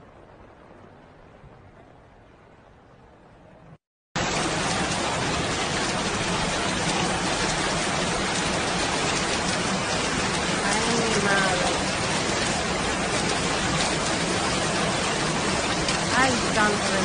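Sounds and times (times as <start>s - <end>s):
heavy rain: 0.0s - 3.6s, 4.2s - 17.0s.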